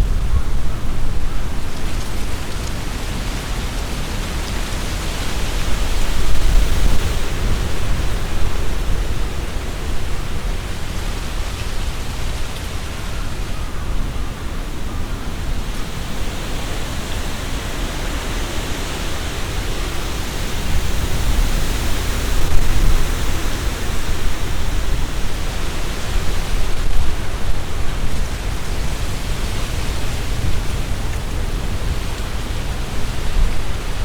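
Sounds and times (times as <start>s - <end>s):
leaves rustling in wind: 0.0s - 34.0s
wind rumble on microphone: 0.0s - 34.0s.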